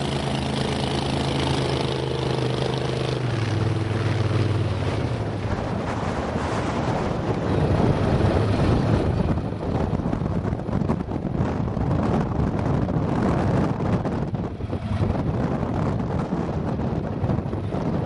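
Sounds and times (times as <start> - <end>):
boat motor running: 0.0 - 18.0
wind rumbling on microphone: 0.0 - 18.0.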